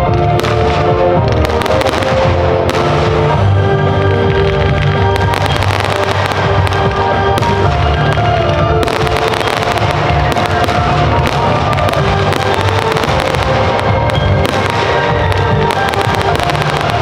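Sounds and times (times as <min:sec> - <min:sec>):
fireworks bursting and crackling: 0:00.0 - 0:17.0
music soundtrack: 0:00.0 - 0:17.0.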